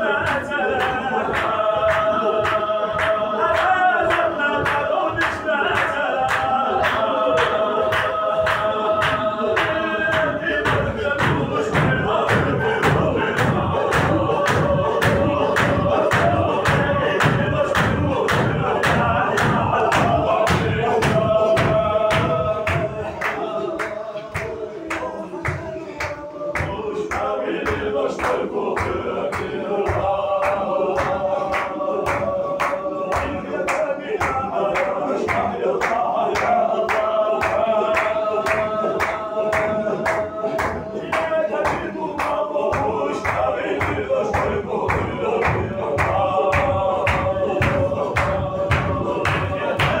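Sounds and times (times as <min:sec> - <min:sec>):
men chanting: 0:00.0 - 0:50.0
sharp rhythmic beat: 0:00.0 - 0:50.0.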